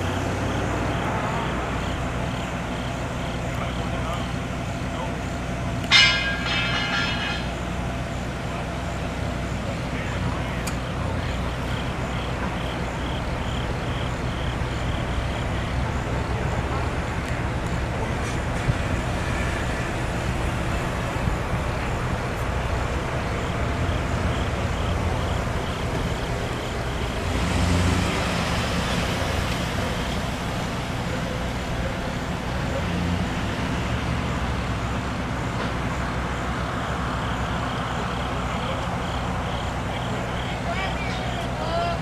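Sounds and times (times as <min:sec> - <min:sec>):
truck engine running: 0:00.0 - 0:42.0.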